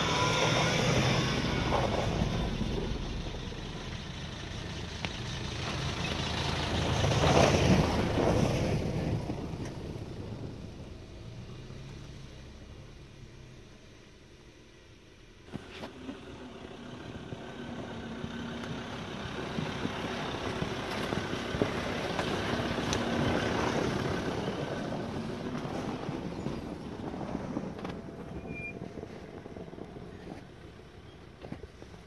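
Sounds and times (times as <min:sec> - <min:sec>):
off-road vehicle engine: 0:00.0 - 0:32.0.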